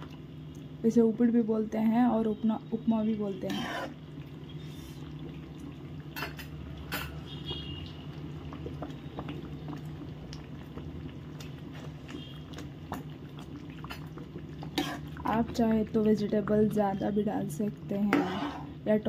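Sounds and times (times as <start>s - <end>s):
low bubbling: 1.6s - 18.8s.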